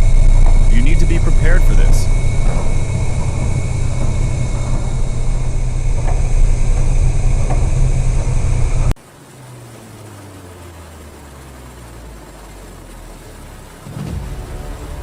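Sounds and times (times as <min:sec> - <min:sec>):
ship engine rumble: 0:00.0 - 0:15.0
steady hiss: 0:00.0 - 0:15.0.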